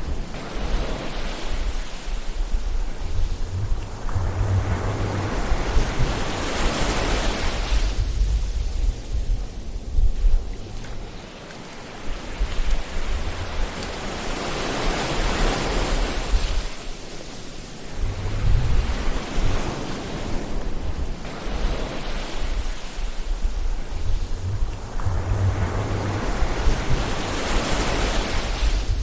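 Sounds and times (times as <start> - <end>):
ocean surf washing: 0.0 - 29.0
waves breaking with rumble: 0.0 - 29.0.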